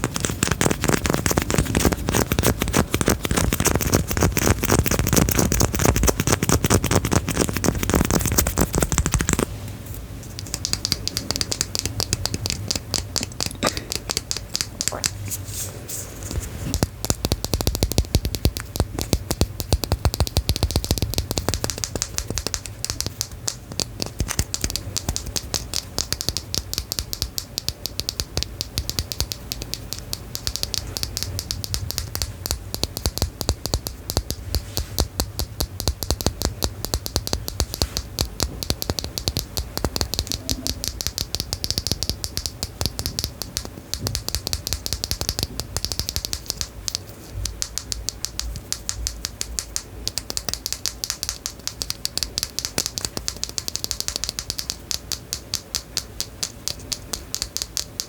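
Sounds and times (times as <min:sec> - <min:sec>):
rapid small clicks: 0:00.0 - 0:09.5, 0:10.2 - 0:15.3, 0:16.3 - 0:58.0.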